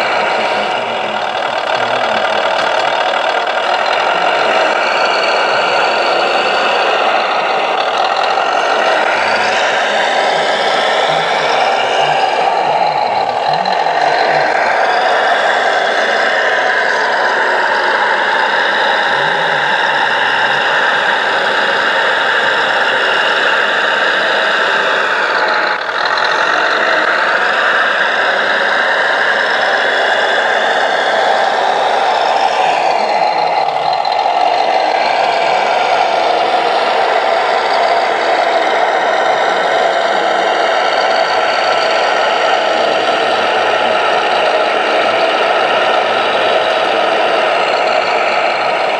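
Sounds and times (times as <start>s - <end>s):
electric motor and pump whir: 0.0s - 48.9s
simulated diesel engine: 0.0s - 48.9s.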